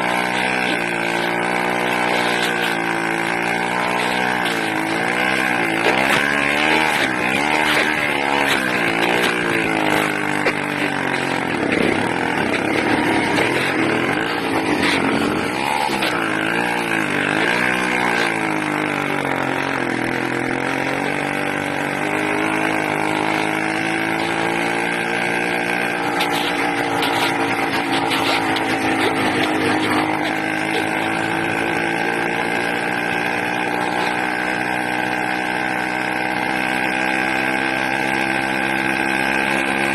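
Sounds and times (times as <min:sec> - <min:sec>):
small engine hunting: 0:00.0 - 0:39.9.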